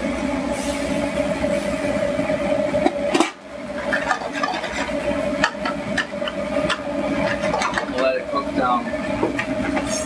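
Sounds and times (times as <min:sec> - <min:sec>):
kitchen hum: 0:00.0 - 0:10.0.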